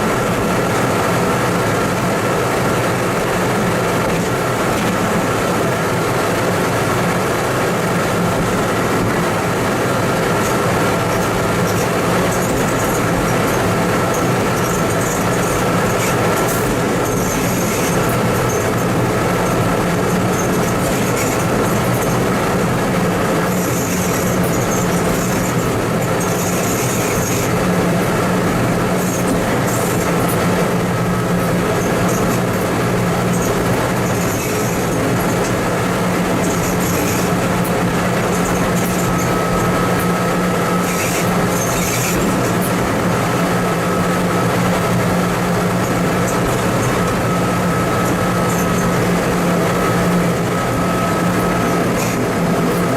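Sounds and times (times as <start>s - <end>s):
diesel engine drone: 0.0s - 52.9s
rolling rail noise: 0.0s - 52.9s.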